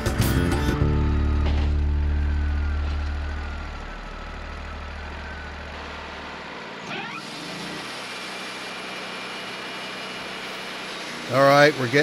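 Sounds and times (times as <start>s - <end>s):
sawmill engine running: 0.0s - 12.0s
short rising whine: 0.4s - 11.0s.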